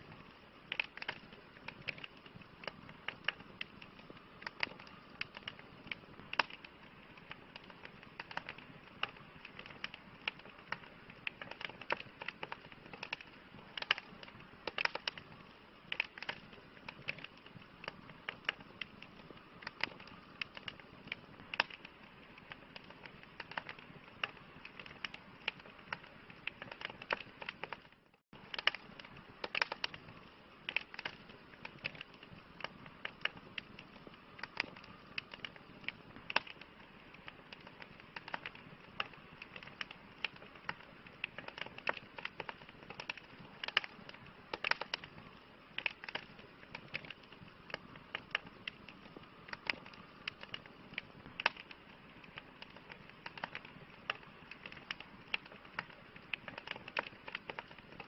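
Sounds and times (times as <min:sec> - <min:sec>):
campfire crackling and popping: 0:00.0 - 0:58.0
soft hiss of burning wood: 0:00.0 - 0:58.0.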